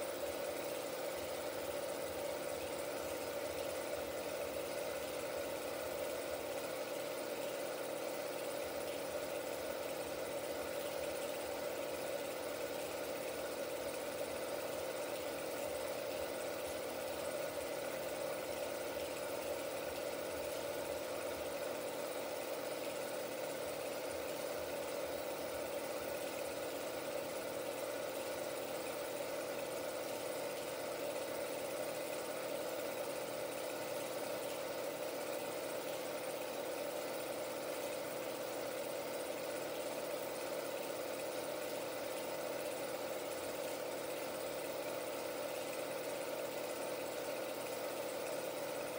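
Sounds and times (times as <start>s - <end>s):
film projector whirring: 0.0s - 48.9s.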